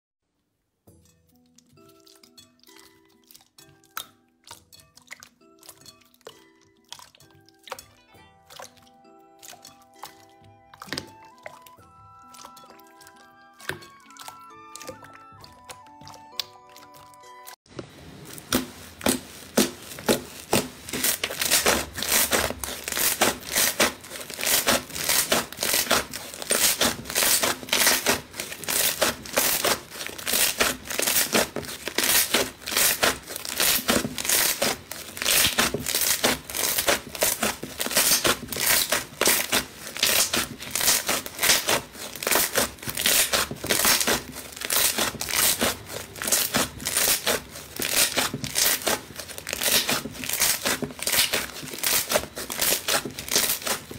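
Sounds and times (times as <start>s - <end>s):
slime crackling and popping: 1.0s - 53.9s.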